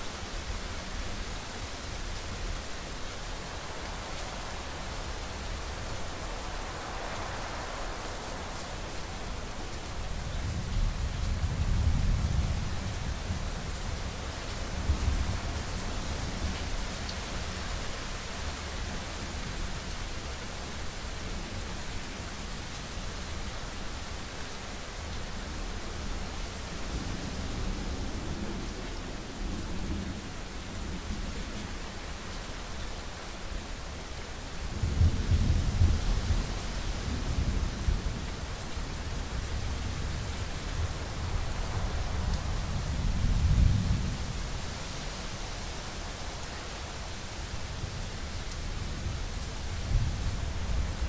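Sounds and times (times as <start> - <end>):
steady rain: 0.0 - 51.0.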